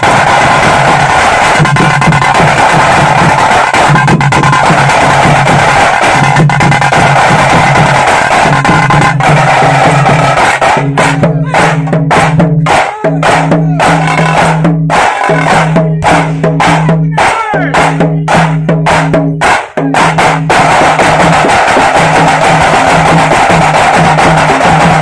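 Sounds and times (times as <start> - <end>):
bass drums: 0.0 - 25.0
side drums beaten with sticks: 0.0 - 25.0
street drum band: 0.0 - 25.0.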